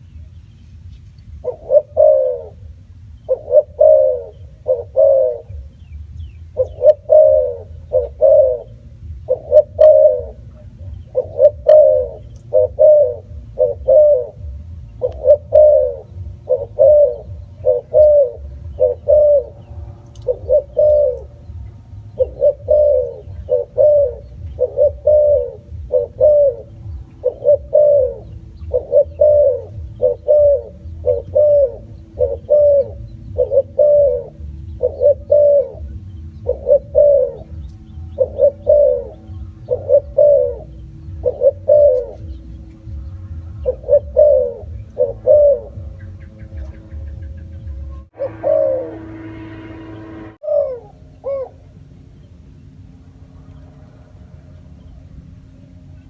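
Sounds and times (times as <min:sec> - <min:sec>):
dove cooing: 0:00.0 - 0:51.9
low rumble: 0:00.0 - 0:56.0.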